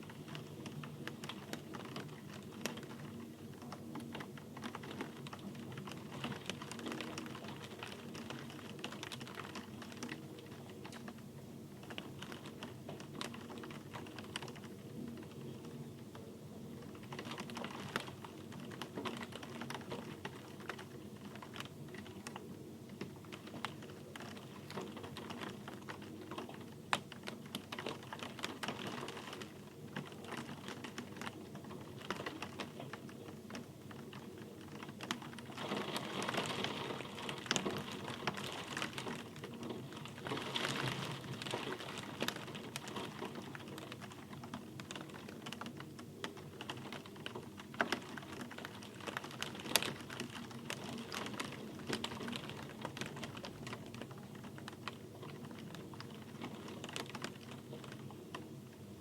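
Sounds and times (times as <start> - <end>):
raindrops pattering on hard surface: 0.0 - 59.0.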